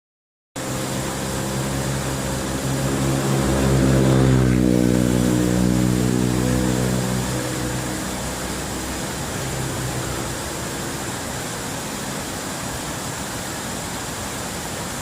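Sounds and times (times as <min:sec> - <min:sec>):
motor engine running: 0:00.6 - 0:12.8.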